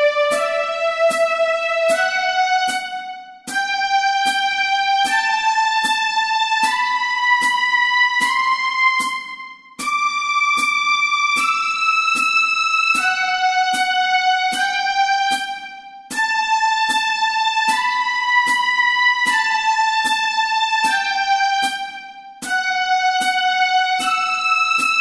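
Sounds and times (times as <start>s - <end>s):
metronome clicking: 0.2s - 25.0s.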